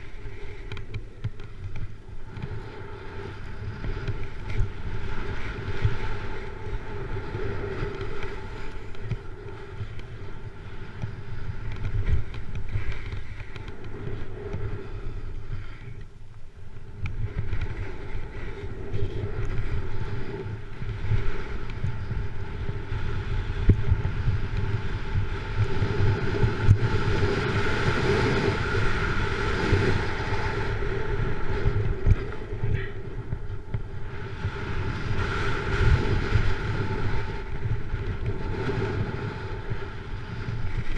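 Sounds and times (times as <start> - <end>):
snowboard carving over snow: 0.0 - 16.0, 16.6 - 40.9
wind buffeting microphone: 0.0 - 40.9.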